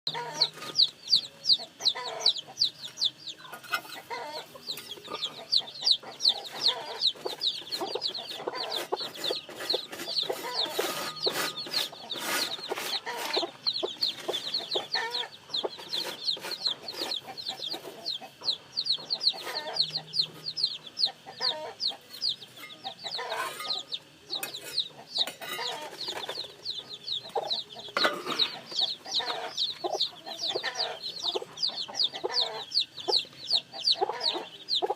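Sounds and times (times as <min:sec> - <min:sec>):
chicken clucking: 0:00.1 - 0:34.9
chicks peeping: 0:00.1 - 0:34.9.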